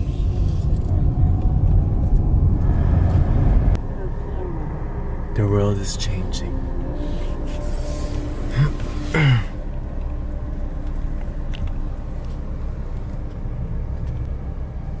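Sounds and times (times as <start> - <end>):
car engine rumble from inside: 0.0 - 15.0.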